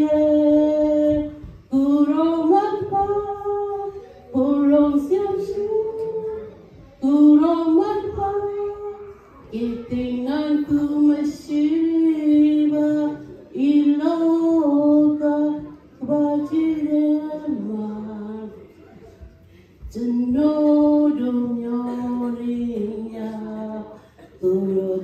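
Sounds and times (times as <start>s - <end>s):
woman singing into a microphone: 0.0s - 18.8s, 19.8s - 25.0s.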